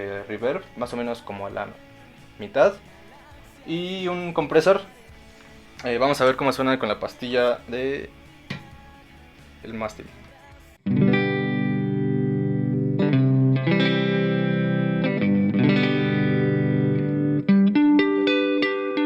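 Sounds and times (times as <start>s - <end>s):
electric guitar chords strummed: 0.0s - 19.0s.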